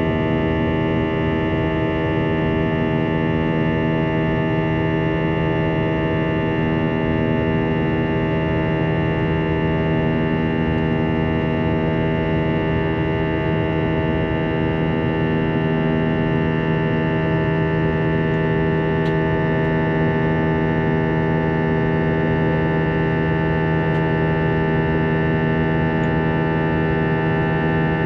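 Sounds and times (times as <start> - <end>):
jet engine drone in cabin: 0.0 - 28.0.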